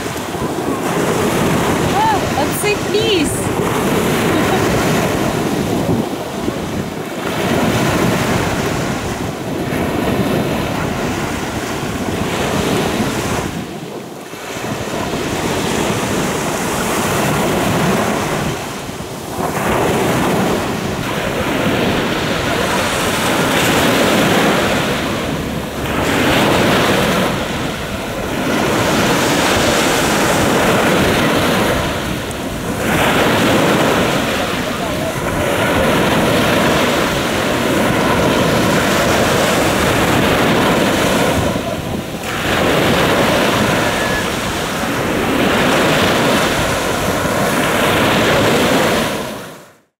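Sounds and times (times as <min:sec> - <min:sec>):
wind buffeting the microphone: 0:00.0 - 0:49.4
sea surf breaking on shore: 0:00.0 - 0:49.9.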